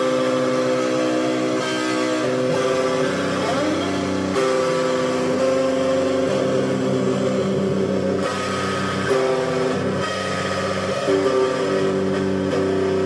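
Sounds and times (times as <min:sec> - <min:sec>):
distorted electric guitar strumming: 0:00.0 - 0:13.0.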